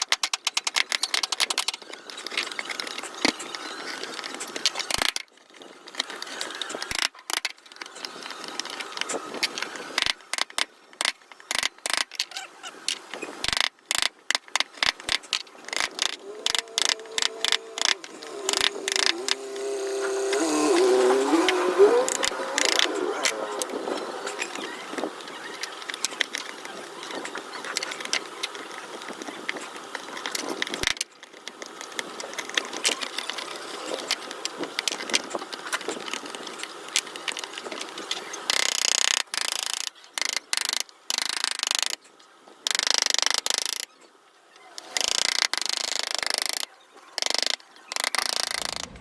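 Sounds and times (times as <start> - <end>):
small clicks and scraping on wood: 0.0 - 43.9, 44.7 - 49.0.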